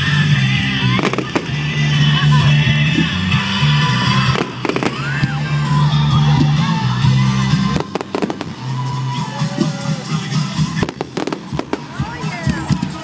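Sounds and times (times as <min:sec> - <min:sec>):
music with steady bass: 0:00.0 - 0:13.0
fireworks bangs and cracks: 0:00.8 - 0:03.1, 0:03.7 - 0:06.6, 0:07.2 - 0:13.0.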